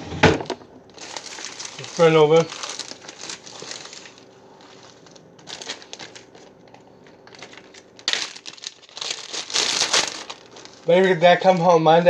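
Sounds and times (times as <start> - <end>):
packaging crinkling: 0.5 - 11.8.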